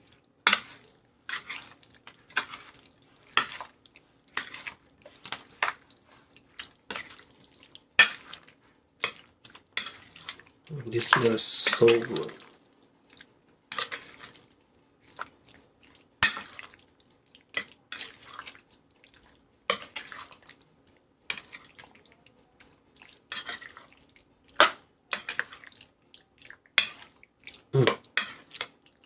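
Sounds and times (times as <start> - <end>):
spoon stirring wet potato salad: 0.0 - 29.0.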